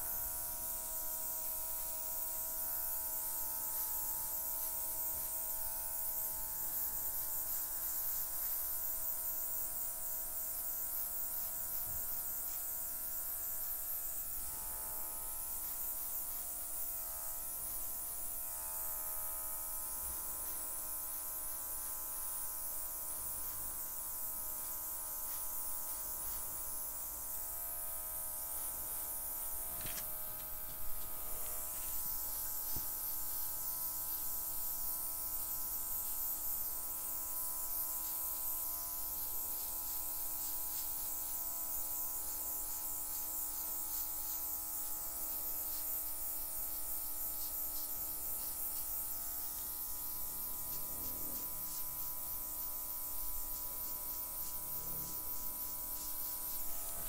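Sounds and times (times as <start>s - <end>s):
airbrush motor buzzing: 0.0s - 57.0s.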